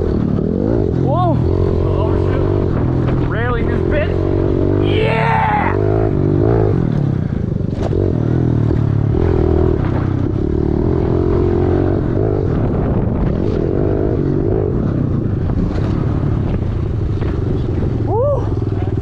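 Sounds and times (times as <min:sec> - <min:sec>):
motorbike engine revving: 0:00.0 - 0:19.0.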